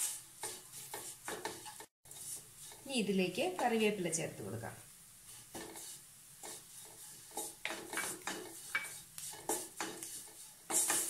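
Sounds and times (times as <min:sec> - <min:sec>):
wooden spatula scraping pan: 0:00.0 - 0:03.7, 0:05.2 - 0:11.0
frying sizzle: 0:00.0 - 0:11.0.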